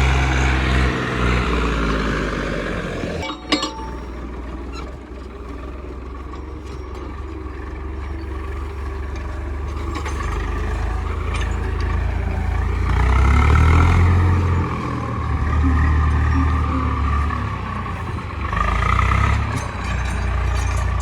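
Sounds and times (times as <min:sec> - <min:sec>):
tractor engine rumble: 0:00.0 - 0:21.0.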